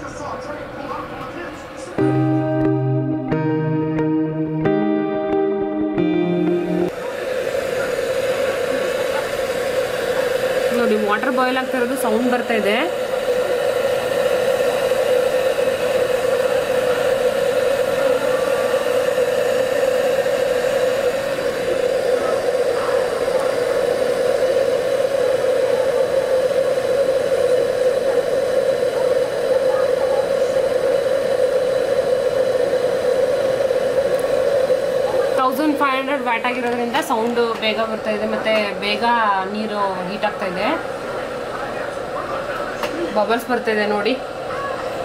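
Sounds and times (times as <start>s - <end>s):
electric kettle boiling water: 6.2s - 45.0s.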